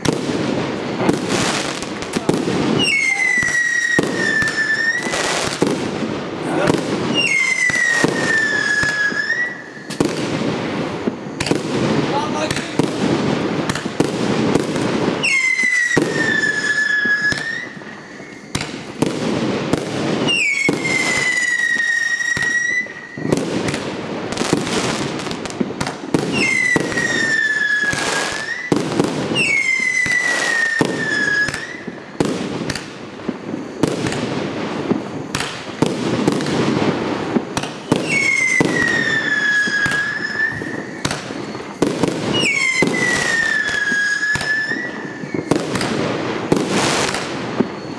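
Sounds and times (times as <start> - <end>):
falling firework whistle: 0.0 - 47.9
firework pops and bangs: 0.0 - 47.9.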